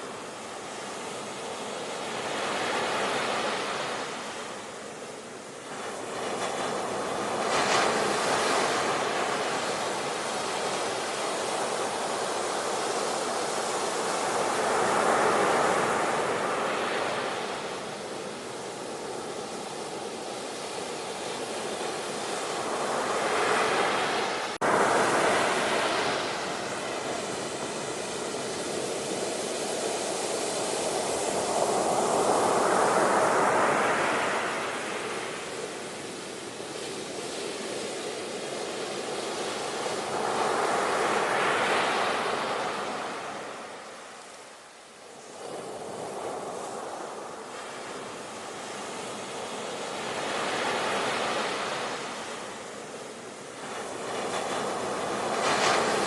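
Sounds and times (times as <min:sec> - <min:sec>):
ocean waves washing in: 0:00.0 - 0:56.0.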